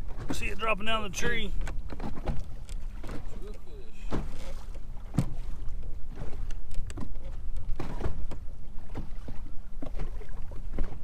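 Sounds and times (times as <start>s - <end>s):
waves slapping kayak hull: 0.0s - 11.0s.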